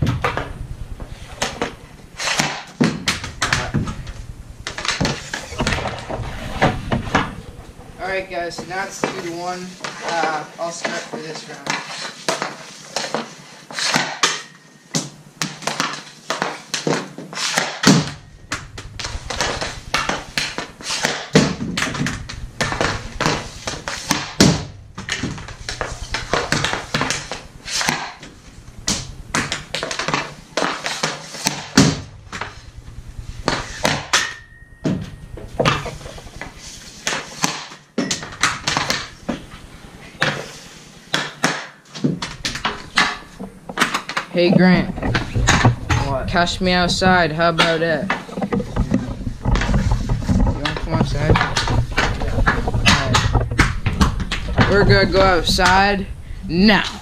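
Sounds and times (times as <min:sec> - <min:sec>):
hockey pucks and sticks tapping: 0:00.0 - 0:04.0, 0:04.6 - 0:07.4, 0:08.1 - 0:32.6, 0:33.4 - 0:56.0
pucks striking boards: 0:00.0 - 0:07.4, 0:08.0 - 0:32.6, 0:33.3 - 0:56.0.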